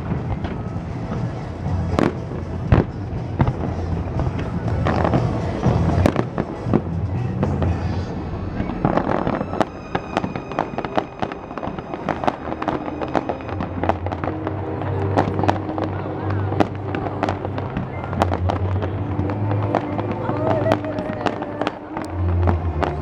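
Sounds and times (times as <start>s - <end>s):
fireworks bursting: 0.0s - 23.0s
music with steady bass: 0.0s - 23.0s.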